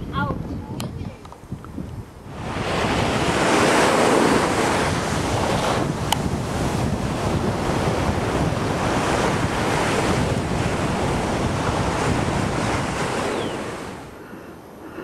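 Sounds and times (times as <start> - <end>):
wind on microphone: 0.0 - 15.0
ocean surf: 2.2 - 15.0.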